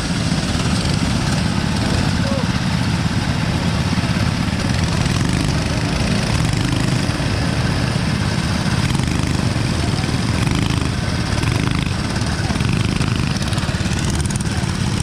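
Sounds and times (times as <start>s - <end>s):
constant rush of noise: 0.0s - 15.0s
motorcycle engine running: 0.0s - 15.0s.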